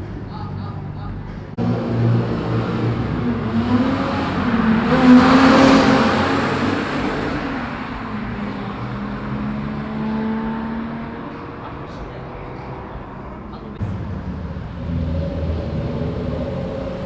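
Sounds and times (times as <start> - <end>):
steady engine note: 0.0 - 17.0
loud car exhaust driving past: 1.3 - 17.0.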